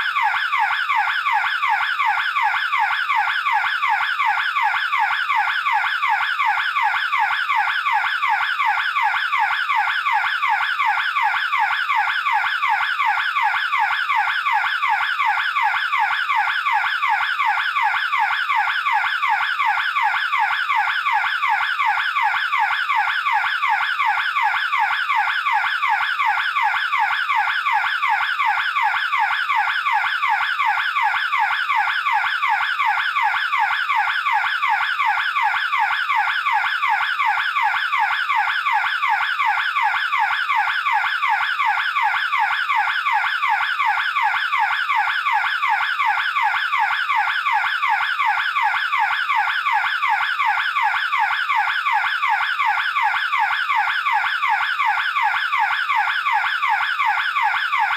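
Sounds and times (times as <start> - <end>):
burglar alarm siren warbling: 0.0 - 57.9.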